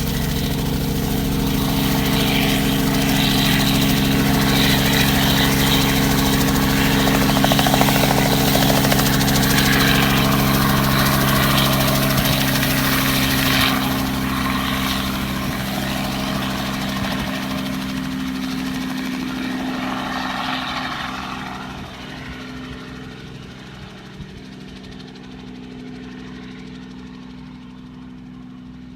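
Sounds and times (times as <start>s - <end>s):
helicopter engine and rotor: 0.0s - 28.8s.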